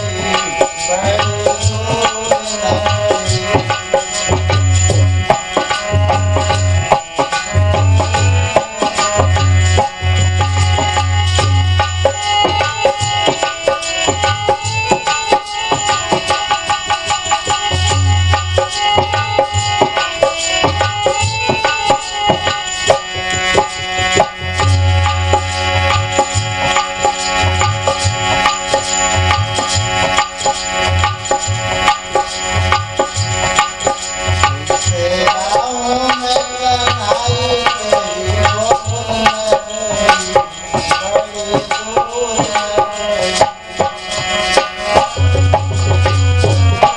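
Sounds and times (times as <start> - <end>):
fast tabla drumming: 0.0 - 46.9
held melody line: 0.0 - 46.9.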